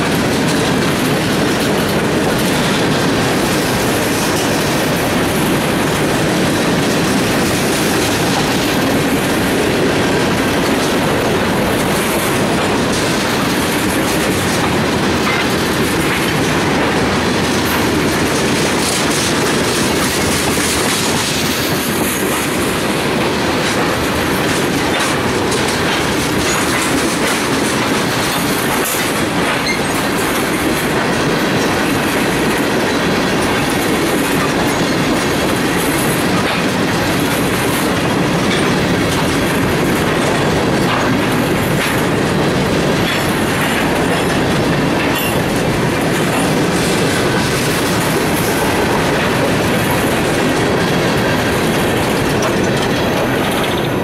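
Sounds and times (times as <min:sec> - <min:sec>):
train wheels rumbling on rail: 0:00.0 - 0:54.0
wheels clickety-clack over joints: 0:00.0 - 0:54.0.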